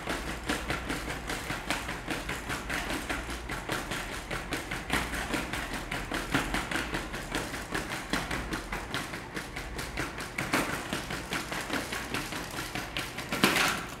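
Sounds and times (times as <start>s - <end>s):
robot feet tapping on foam mats: 0.0s - 14.0s.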